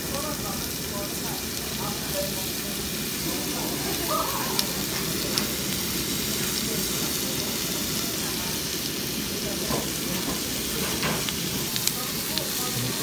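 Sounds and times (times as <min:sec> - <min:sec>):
meat sizzling on grill plate: 0:00.0 - 0:13.0.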